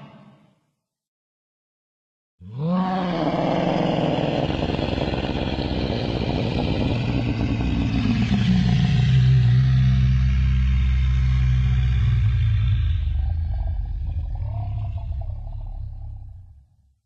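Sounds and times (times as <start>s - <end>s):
low rough creature bellow: 2.4s - 16.8s.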